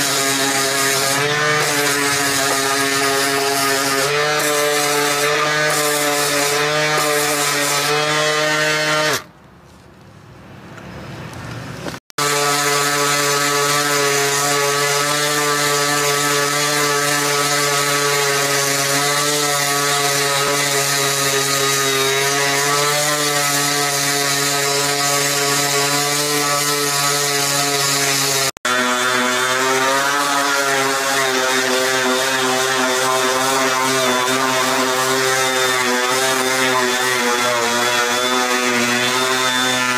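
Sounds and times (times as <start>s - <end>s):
orbital sander sanding wood: 0.0s - 9.2s, 11.8s - 39.9s.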